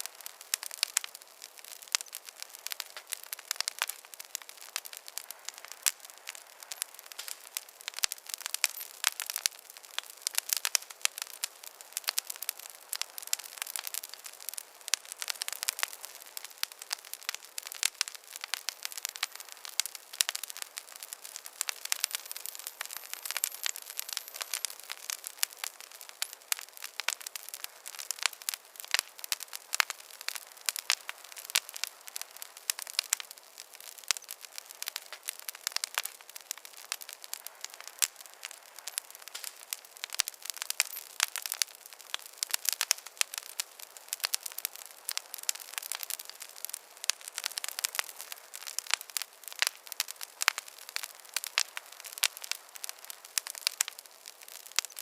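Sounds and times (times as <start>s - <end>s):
faint hiss: 0.0s - 55.0s
wood fire crackling: 0.0s - 55.0s.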